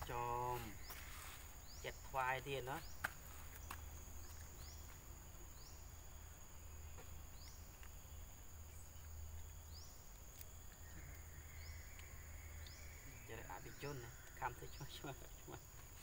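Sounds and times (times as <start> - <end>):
insect drone: 0.0 - 16.0.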